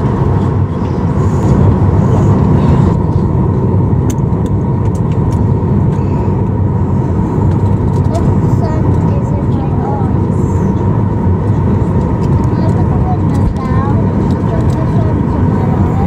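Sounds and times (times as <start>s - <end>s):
constant whine: 0.0s - 16.0s
jet aircraft cabin rumble: 0.0s - 16.0s.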